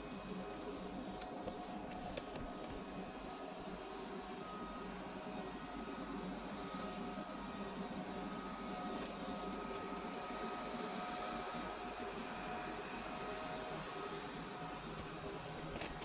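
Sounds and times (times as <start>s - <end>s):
robot vacuum cleaner running: 2.3s - 16.0s.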